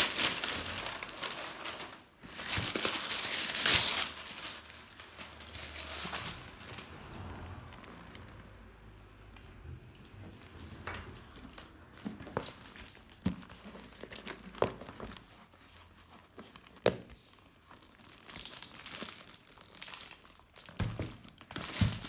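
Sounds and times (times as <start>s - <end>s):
paper packing crinkling: 0.0s - 8.6s, 10.4s - 22.0s.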